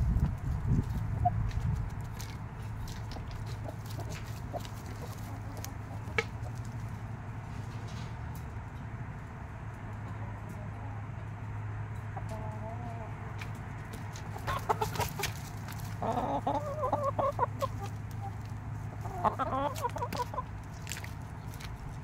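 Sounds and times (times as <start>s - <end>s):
chickens clucking: 0.1s - 8.5s, 9.8s - 22.0s.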